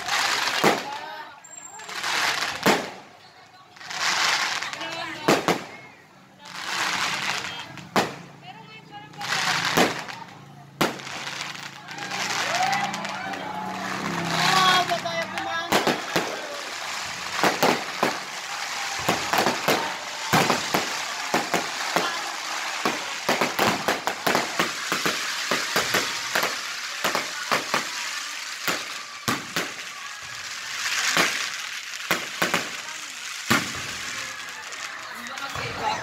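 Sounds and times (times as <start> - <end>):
fireworks crackling hiss: 0.0 - 36.0
fireworks cracks and bangs: 0.0 - 36.0.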